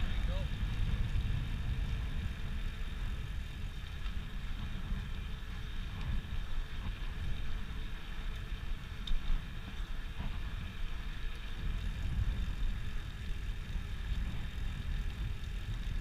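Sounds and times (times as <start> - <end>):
bicycle tyre noise on asphalt: 0.0 - 16.0
wind buffeting microphone: 0.0 - 16.0.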